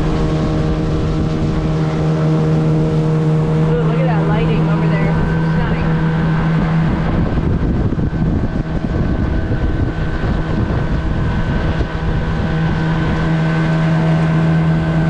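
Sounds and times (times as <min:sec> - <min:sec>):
motorboat engine hum: 0:00.0 - 0:15.0
wind noise on microphone: 0:00.0 - 0:15.0.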